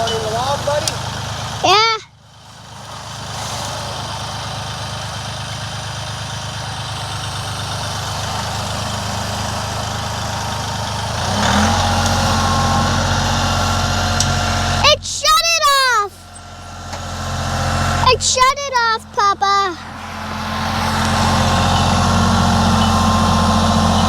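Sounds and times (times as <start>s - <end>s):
tractor engine running: 0.0s - 24.0s
engine whine: 2.6s - 15.3s, 15.9s - 24.0s.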